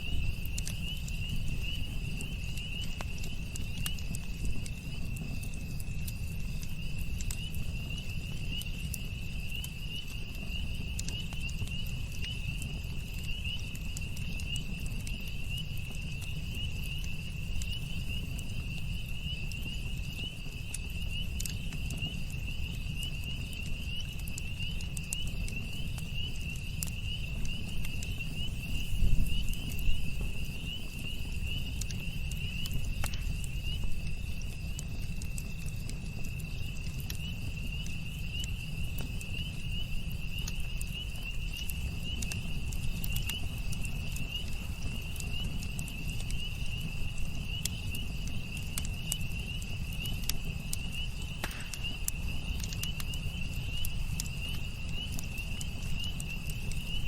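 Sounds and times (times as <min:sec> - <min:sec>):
campfire crackling and popping: 0:00.0 - 0:57.0
low fire rumble: 0:00.0 - 0:57.0
night insects chirring: 0:00.0 - 0:57.0.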